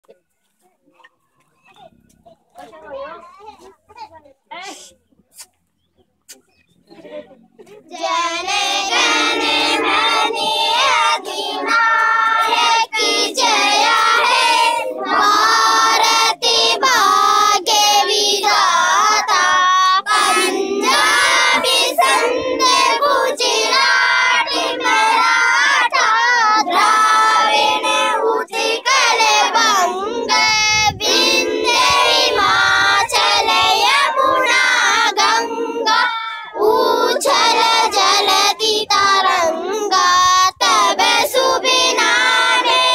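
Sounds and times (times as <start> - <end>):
children singing together: 7.9 - 42.9.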